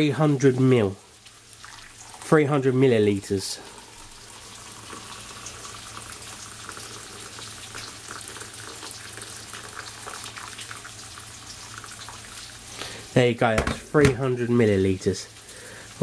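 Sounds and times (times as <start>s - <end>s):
water pouring into a plastic jug: 0.0s - 16.0s.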